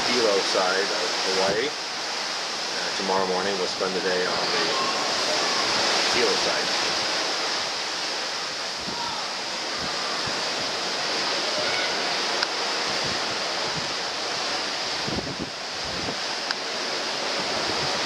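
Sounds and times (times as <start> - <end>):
sea water rushing past ship: 0.0 - 18.0
wind on deck: 0.0 - 18.0
wind buffeting microphone: 1.3 - 18.0.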